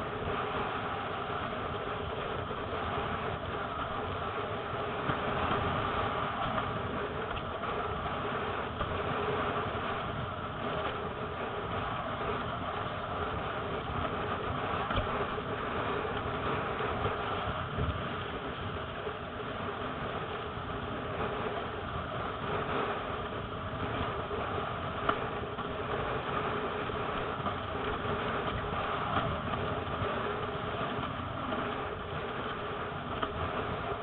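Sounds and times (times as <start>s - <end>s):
water rushing past board: 0.0s - 34.0s
wind buffeting microphone: 0.0s - 34.0s.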